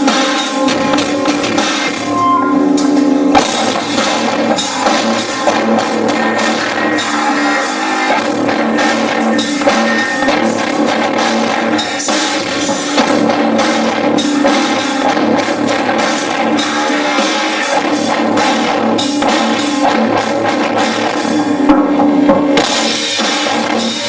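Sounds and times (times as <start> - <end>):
distorted guitar: 0.0 - 24.0
live rock band playing: 0.0 - 24.0
pounding drums: 0.0 - 24.0.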